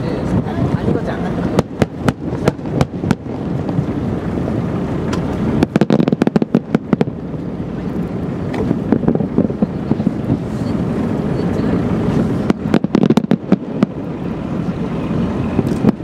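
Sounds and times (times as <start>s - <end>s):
fireworks bangs and crackles: 1.4s - 16.0s.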